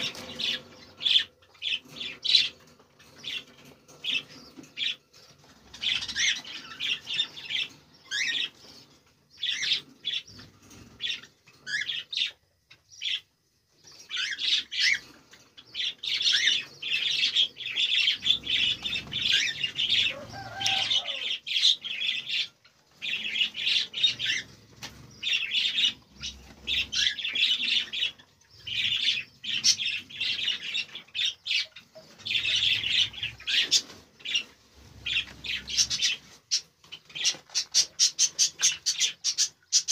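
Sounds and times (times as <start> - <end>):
cockatiels chirping and squawking: 0.0 - 13.3, 13.9 - 39.9.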